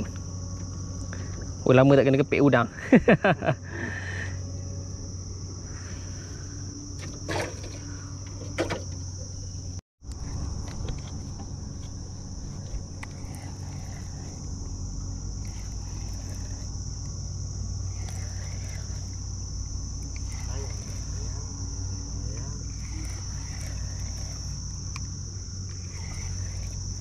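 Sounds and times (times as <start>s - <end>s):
high-pitched insect drone: 0.0s - 27.0s
low steady hum: 0.0s - 27.0s.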